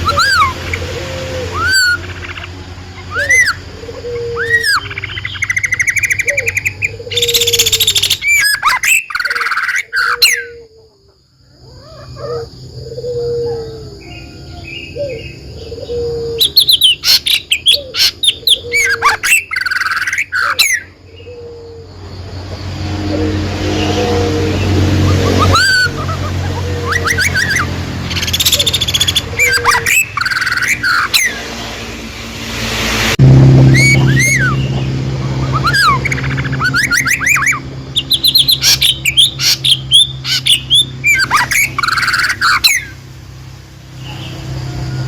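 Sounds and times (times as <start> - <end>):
songbirds singing: 0.0 - 33.0, 33.7 - 45.0.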